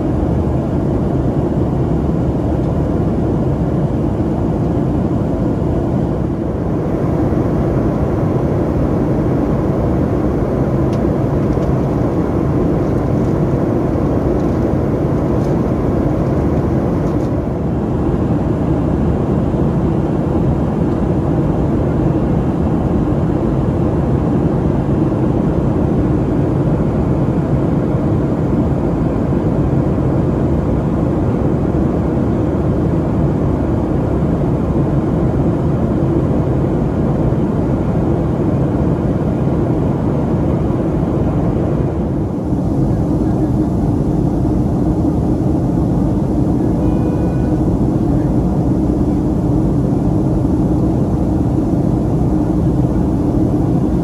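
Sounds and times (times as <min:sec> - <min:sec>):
jet engine cabin rush: 0:00.0 - 0:54.0.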